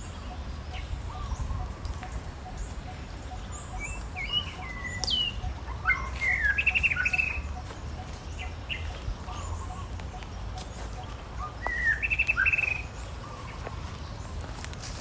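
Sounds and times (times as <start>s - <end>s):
high chirping and whistling calls: 0.0s - 14.3s.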